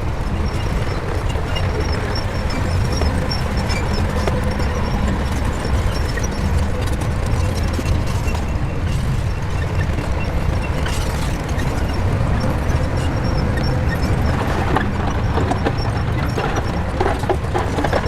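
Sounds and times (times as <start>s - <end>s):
bulldozer diesel engine rumbling: 0.0s - 18.0s.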